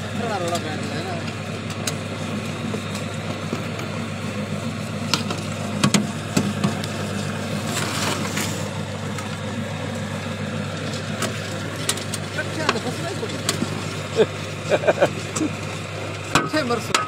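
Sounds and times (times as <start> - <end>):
machine low mechanical hum: 0.0 - 17.0.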